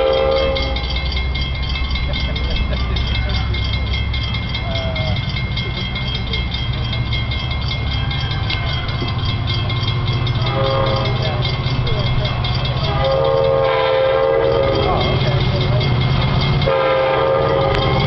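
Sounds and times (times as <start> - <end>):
diesel locomotive rumble: 0.0 - 18.0.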